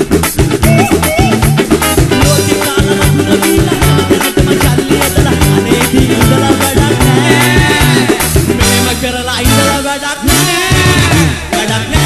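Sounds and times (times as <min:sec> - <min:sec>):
live band playing dance beat: 0:00.0 - 0:12.0.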